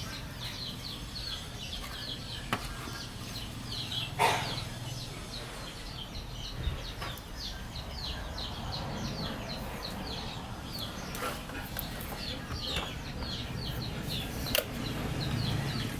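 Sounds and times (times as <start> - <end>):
small bird chirping: 0.0 - 15.9.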